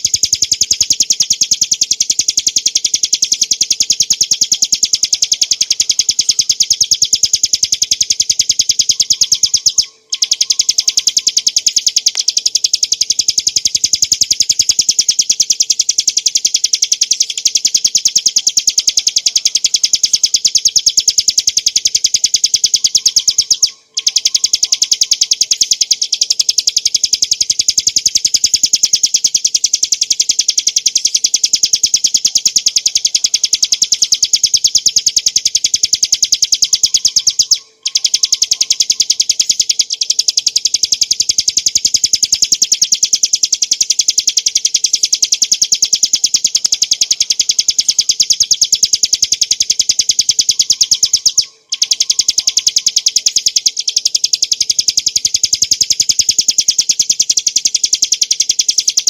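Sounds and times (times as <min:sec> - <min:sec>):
bird singing a fast trill: 0:00.0 - 0:59.0.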